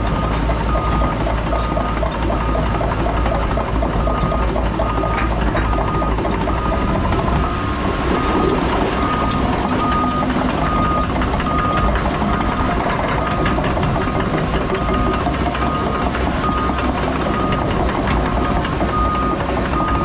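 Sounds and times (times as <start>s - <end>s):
excavator engine: 0.0s - 20.0s
excavator travel alarm beeping: 0.0s - 20.0s.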